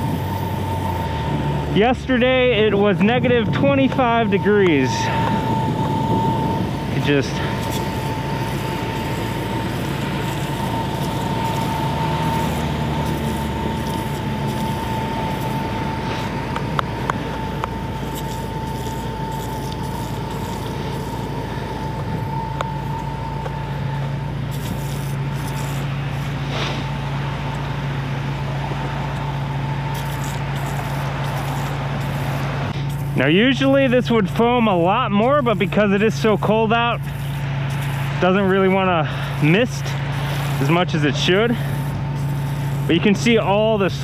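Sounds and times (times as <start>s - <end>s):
foam sprayer hissing: 0.0s - 44.0s
low steady hum: 0.0s - 44.0s.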